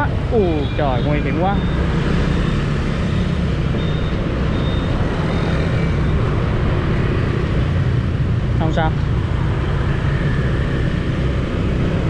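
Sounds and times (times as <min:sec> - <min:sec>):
motorbike engine and road noise: 0:00.0 - 0:12.0.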